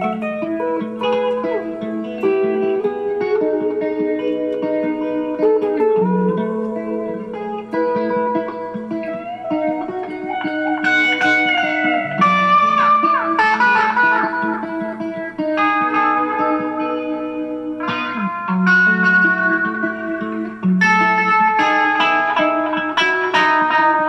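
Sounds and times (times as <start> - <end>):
electric guitar notes: 0.0 - 24.0.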